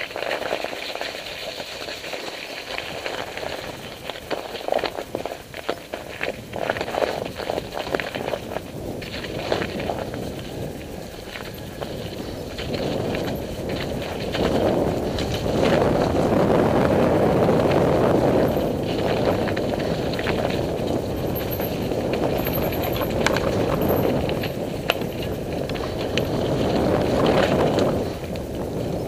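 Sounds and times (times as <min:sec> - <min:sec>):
bike clicks and rattles: 0:00.0 - 0:29.0
bike tyre and wind rush: 0:00.0 - 0:29.0.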